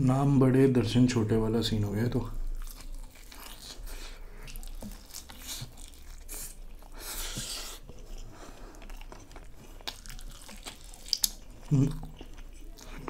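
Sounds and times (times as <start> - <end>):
person chewing food: 2.3 - 13.0.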